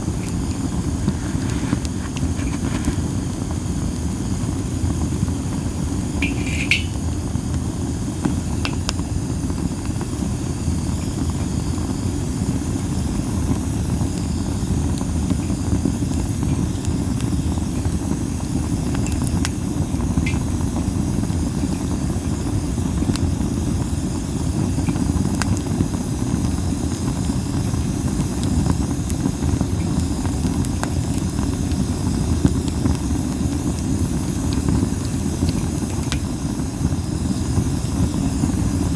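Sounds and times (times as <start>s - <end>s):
burning wood crackling: 0.0s - 38.9s
hissing squeals from burning wood: 0.0s - 38.9s.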